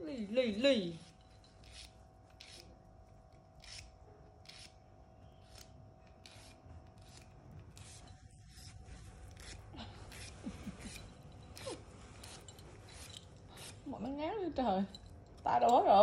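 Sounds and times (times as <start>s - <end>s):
nail file rasping on claws: 0.9s - 14.0s.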